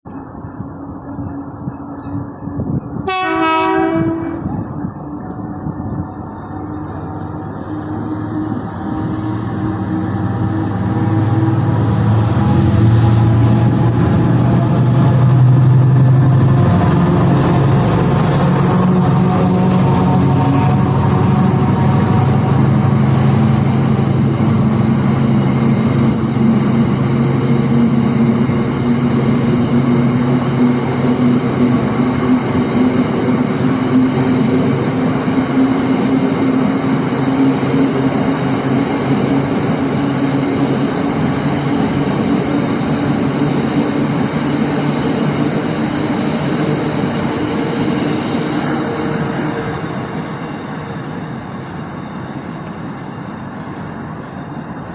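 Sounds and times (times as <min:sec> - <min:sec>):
diesel locomotive engine drone: 0:00.0 - 0:54.9
freight wagons rumbling on rails: 0:00.1 - 0:54.9.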